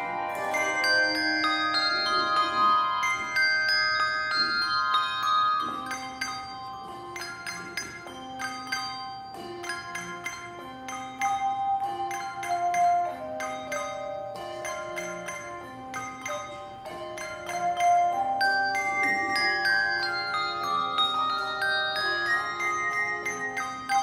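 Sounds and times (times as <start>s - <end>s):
handbell choir playing: 0.0s - 24.0s.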